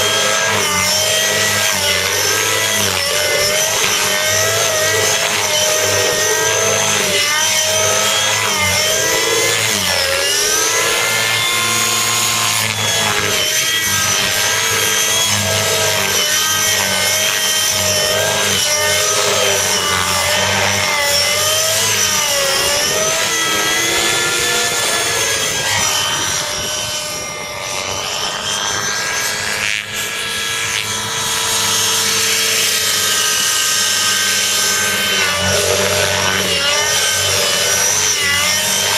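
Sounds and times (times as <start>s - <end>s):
model helicopter engine whine: 0.0s - 38.9s
rotor blade noise: 0.0s - 38.9s.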